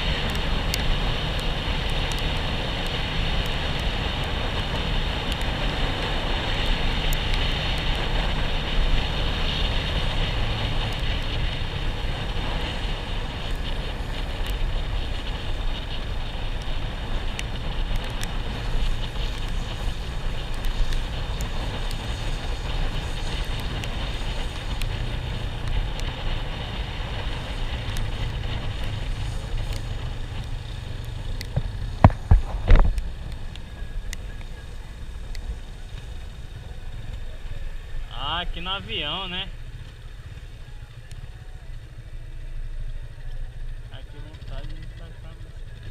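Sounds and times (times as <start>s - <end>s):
vehicle engine running: 0.0s - 45.9s
wind rushing over microphone: 0.0s - 45.9s.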